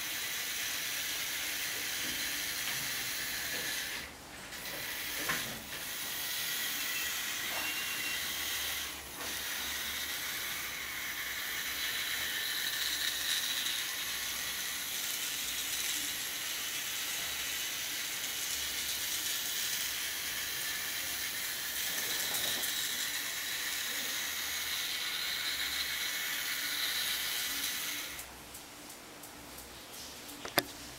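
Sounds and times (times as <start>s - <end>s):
toy robot car motors whirring: 0.0s - 28.3s.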